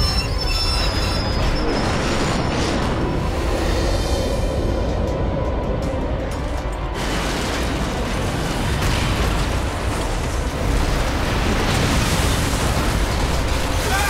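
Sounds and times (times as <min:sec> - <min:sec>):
dramatic music: 0:00.0 - 0:14.0
train crash rumble with booms: 0:00.8 - 0:05.3, 0:06.2 - 0:14.0.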